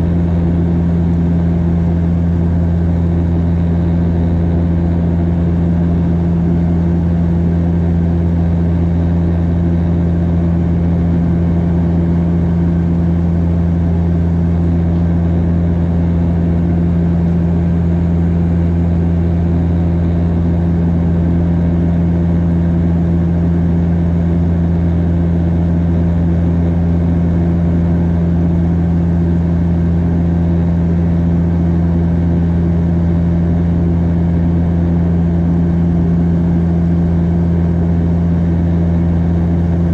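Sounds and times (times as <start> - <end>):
turboprop cabin drone: 0.0 - 39.9.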